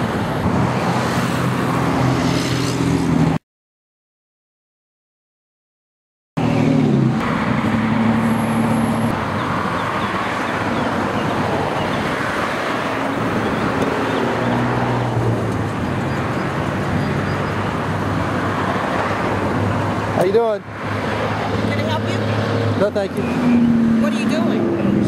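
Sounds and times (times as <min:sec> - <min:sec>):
cars passing: 0:00.0 - 0:03.4, 0:06.4 - 0:25.0
tyre and road noise: 0:00.0 - 0:03.4, 0:06.4 - 0:25.0.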